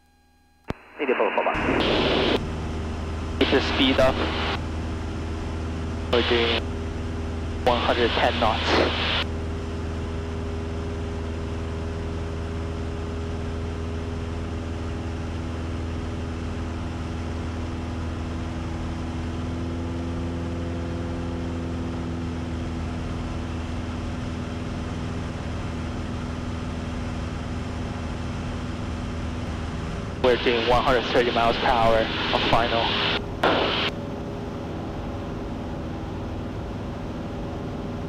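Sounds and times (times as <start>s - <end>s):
propeller plane engine droning: 1.1s - 38.0s.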